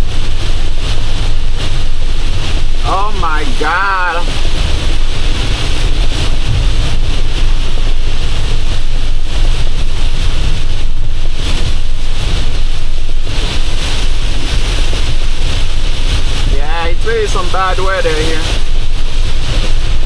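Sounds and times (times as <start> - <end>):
rain hiss: 0.0 - 20.0
truck engine low rumble: 0.0 - 20.0
wet road noise: 0.0 - 20.0.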